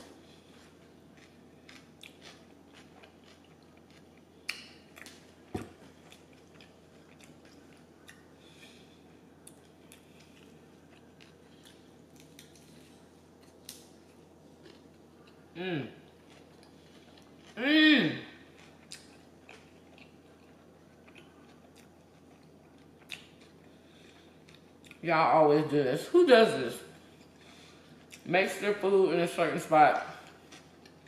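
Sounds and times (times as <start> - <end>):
person chewing food: 0.0 - 17.6, 18.4 - 25.0, 27.0 - 28.3, 30.1 - 31.0.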